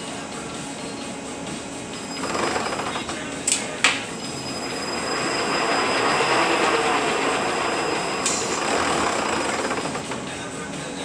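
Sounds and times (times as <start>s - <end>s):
whir of spinning gears: 0.0s - 11.0s.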